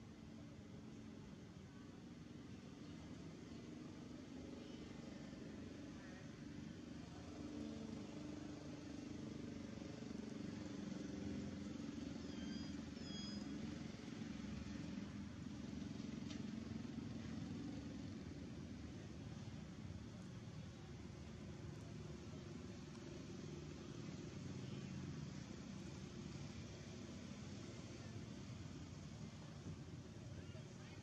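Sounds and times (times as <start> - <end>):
distant vehicle engine hum: 0.0 - 31.0.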